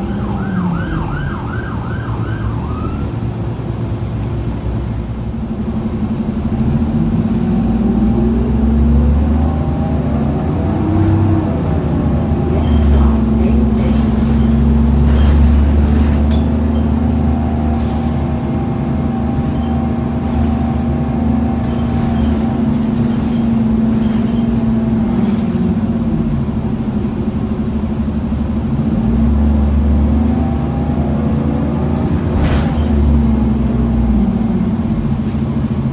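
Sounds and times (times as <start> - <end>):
bus diesel engine drone: 0.0 - 35.9
road noise: 0.0 - 35.9.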